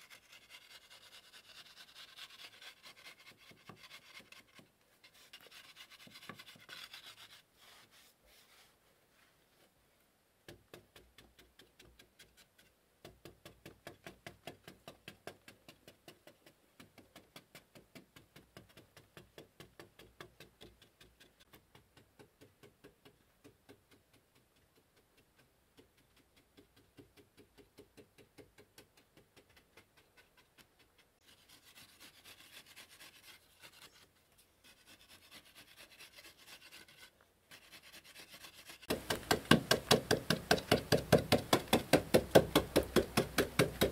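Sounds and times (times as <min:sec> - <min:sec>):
hand tool scraping mud wall: 0:00.0 - 0:08.8, 0:10.6 - 0:43.9.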